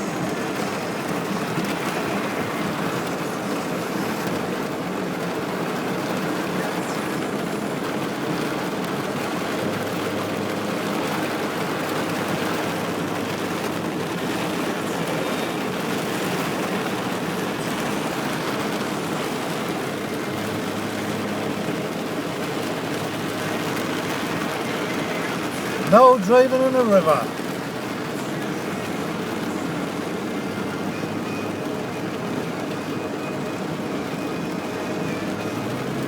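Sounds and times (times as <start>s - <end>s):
flood water rushing: 0.0s - 36.0s.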